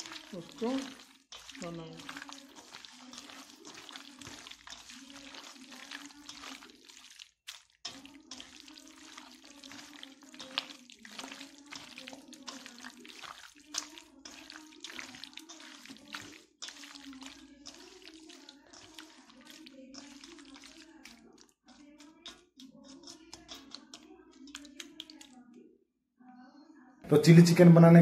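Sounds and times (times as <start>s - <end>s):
hand squelching chicken in marinade: 0.0s - 25.4s.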